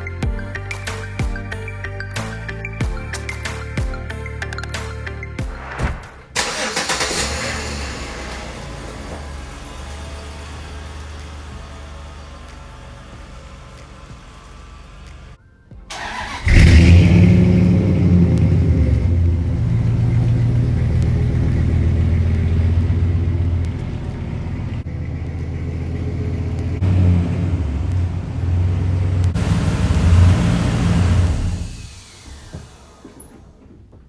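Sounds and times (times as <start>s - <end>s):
truck engine starting and revving: 0.0s - 34.0s.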